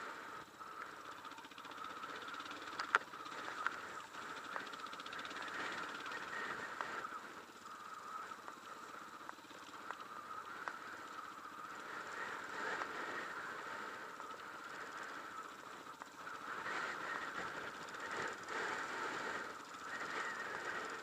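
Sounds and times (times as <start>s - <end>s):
off-road motorcycle engine: 0.0s - 21.0s.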